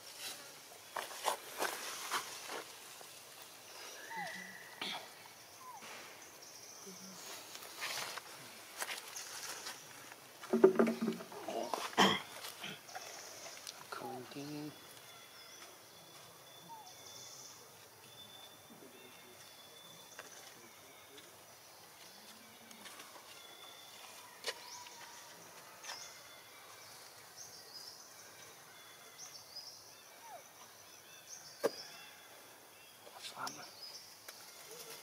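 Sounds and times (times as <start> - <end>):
quiet steady hiss: 0.0 - 35.0.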